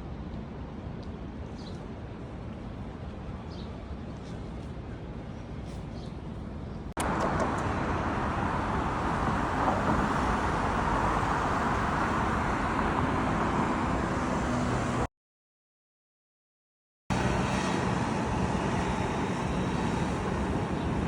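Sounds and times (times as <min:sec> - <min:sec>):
outdoor background noise: 0:00.0 - 0:15.1, 0:17.1 - 0:21.0.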